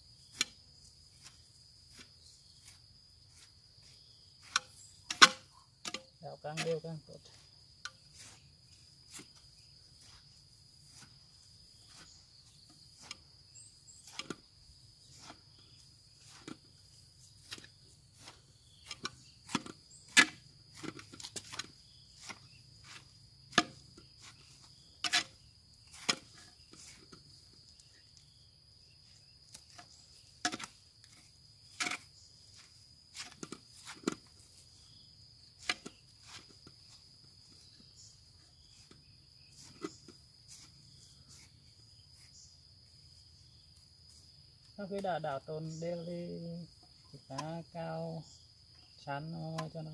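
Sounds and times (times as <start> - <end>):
hand trowel scraping soil: 0.0 - 28.4, 29.0 - 42.7
high insect trill: 0.0 - 49.9.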